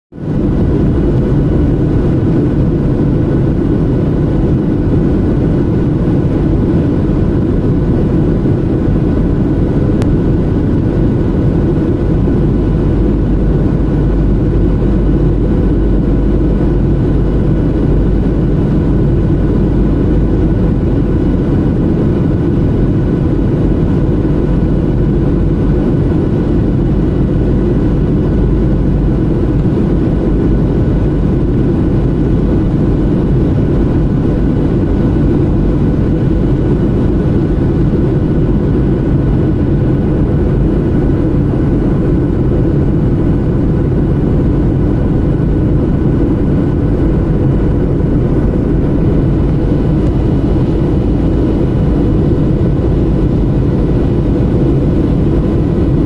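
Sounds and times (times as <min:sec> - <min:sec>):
engine and air roar in cabin: 0:00.1 - 0:56.0
faint steady whine: 0:00.1 - 0:56.0.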